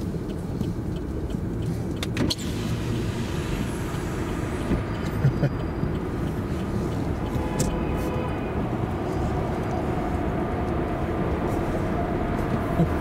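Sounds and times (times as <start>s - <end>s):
car engine: 0.0s - 13.0s
road noise: 0.0s - 13.0s.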